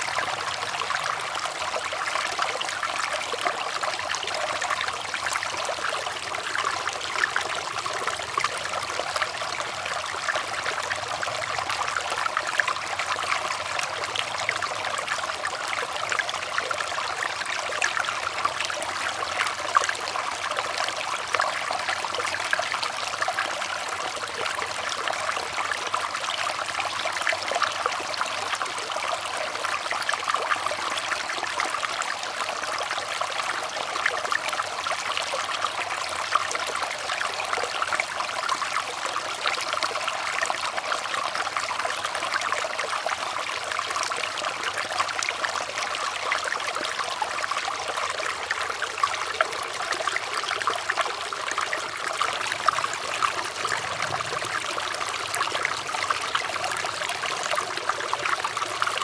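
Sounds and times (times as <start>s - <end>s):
water flowing and trickling: 0.0s - 59.0s.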